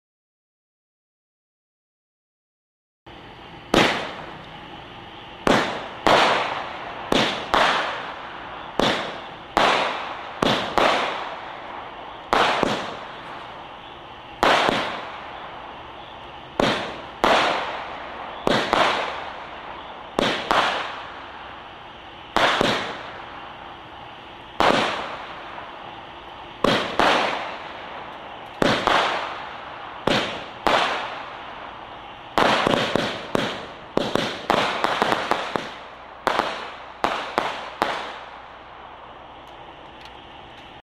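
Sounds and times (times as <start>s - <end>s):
firework bangs: 3.6s - 38.8s.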